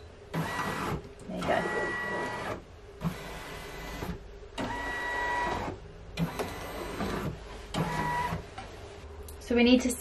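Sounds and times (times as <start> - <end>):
embroidery machine whirring: 0.3 - 8.4.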